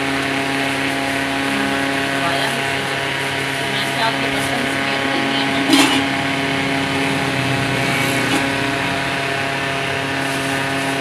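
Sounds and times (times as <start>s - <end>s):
motor humming: 0.0s - 10.9s.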